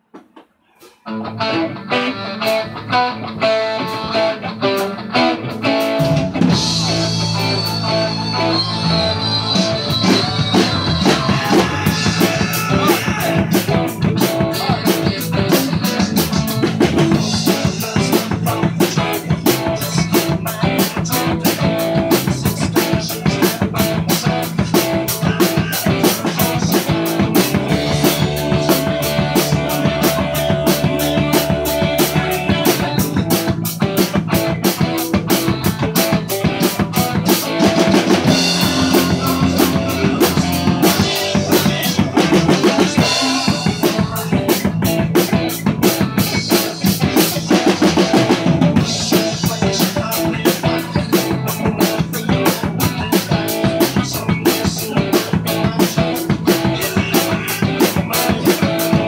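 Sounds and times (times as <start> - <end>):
rock drum kit: 0.0 - 59.0
electric guitar: 0.8 - 59.0.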